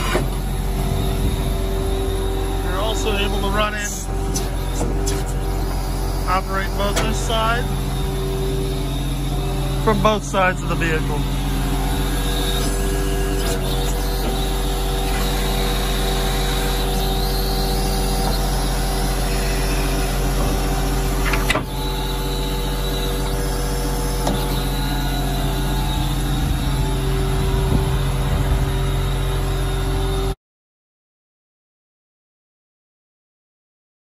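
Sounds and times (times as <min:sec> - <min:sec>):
diesel truck engine idling: 0:00.0 - 0:29.9.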